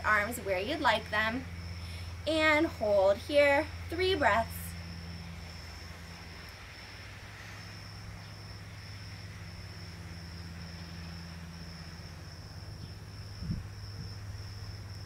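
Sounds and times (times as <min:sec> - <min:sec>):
insects chirping: 0:00.0 - 0:15.0
low steady hum: 0:00.0 - 0:15.0.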